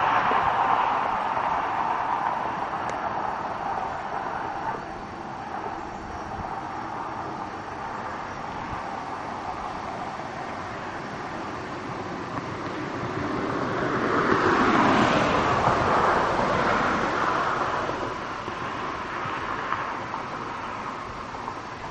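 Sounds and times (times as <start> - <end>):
traffic hum: 0.0 - 21.9
vehicle passing by: 0.0 - 21.9.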